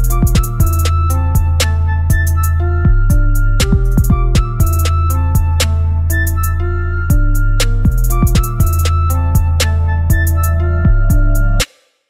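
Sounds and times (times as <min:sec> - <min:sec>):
hi-hat ticks: 0:00.0 - 0:06.4, 0:07.1 - 0:11.8
deep sliding bass notes: 0:00.0 - 0:11.6
held synth notes: 0:00.0 - 0:11.6
electronic beat: 0:00.0 - 0:11.7.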